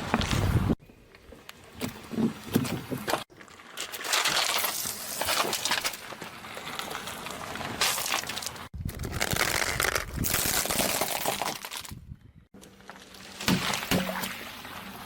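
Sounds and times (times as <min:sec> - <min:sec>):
tyre crushing crunching objects: 0:01.8 - 0:14.5.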